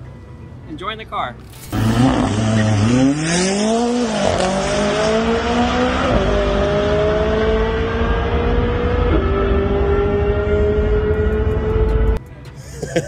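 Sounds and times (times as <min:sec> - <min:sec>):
sports car accelerating hard: 0:01.7 - 0:12.2.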